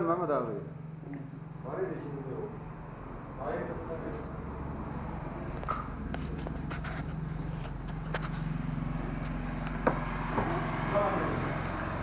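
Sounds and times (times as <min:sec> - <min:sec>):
engine running at low speed: 0:00.2 - 0:12.0.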